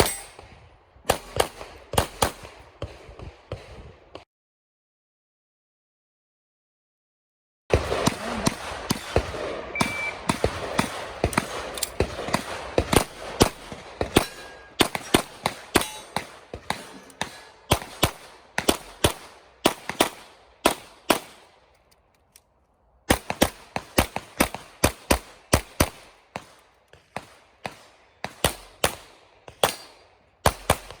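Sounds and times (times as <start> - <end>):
rapid pistol shots: 1.1 - 4.2, 7.7 - 21.6, 23.1 - 31.0.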